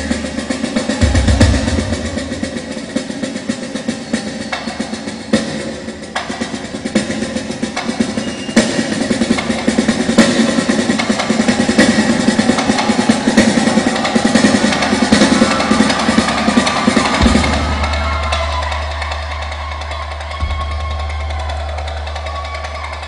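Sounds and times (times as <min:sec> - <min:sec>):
drum kit solo with cymbals: 0:00.0 - 0:23.0.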